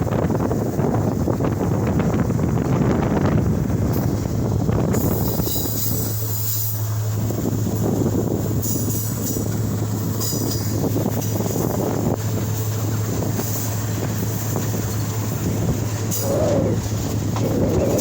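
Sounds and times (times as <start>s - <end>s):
constant low hum: 0.0s - 18.0s
moving vehicle rumble: 0.0s - 18.0s.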